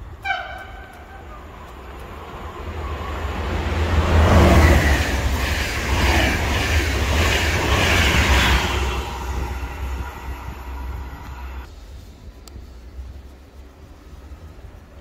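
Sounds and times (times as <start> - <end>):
train rushing past: 0.0 - 14.9.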